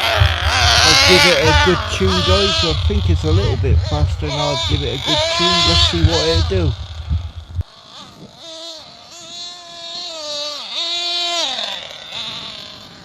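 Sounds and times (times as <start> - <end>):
model engine revving: 0.0 - 13.0.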